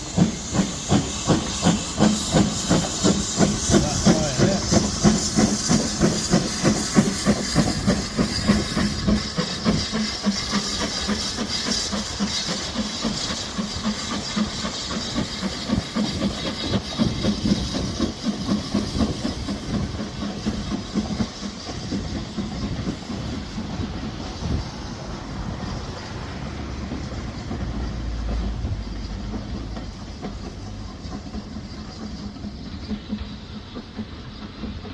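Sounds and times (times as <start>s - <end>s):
hissing steam: 0.0s - 34.9s
steam locomotive chuffing: 0.0s - 34.9s.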